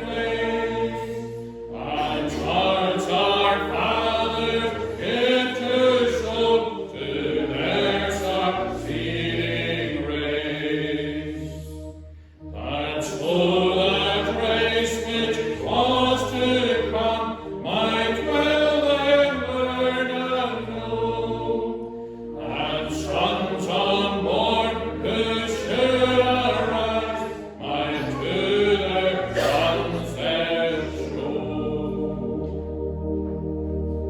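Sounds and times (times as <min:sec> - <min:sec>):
congregation singing a hymn: 0:00.0 - 0:34.0.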